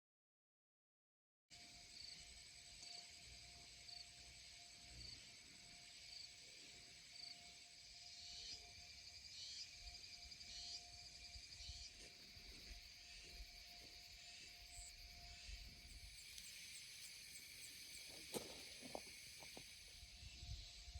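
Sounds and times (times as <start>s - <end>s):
insect drone: 1.5s - 20.9s.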